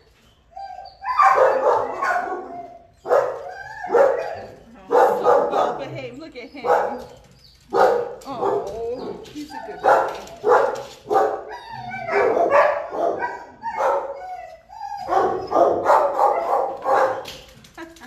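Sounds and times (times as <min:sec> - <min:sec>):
dogs barking: 0:01.0 - 0:17.6.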